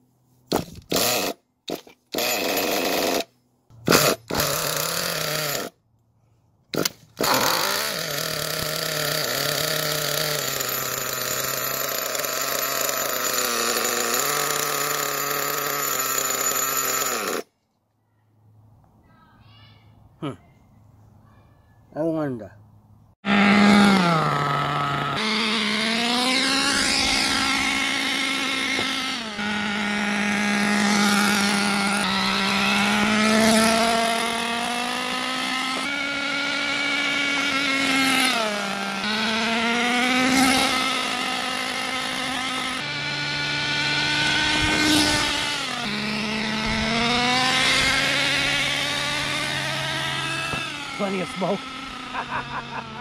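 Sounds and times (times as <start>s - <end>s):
small two-stroke nitro engine running: 0.6s - 5.8s, 6.7s - 17.5s, 23.3s - 53.0s.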